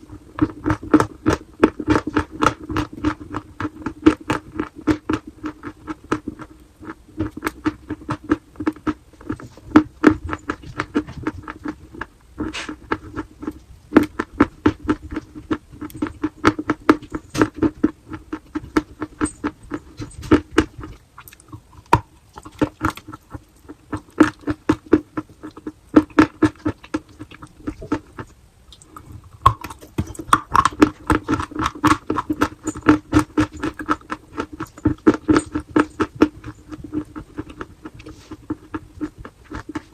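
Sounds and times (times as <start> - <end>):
steady low hum: 0.0 - 39.9
chalk crunching while chewed: 0.1 - 39.9.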